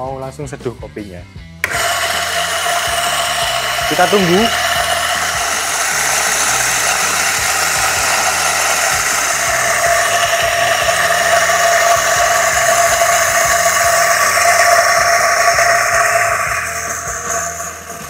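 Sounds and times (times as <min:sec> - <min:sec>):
coffee grinder grinding beans: 0:01.6 - 0:18.0.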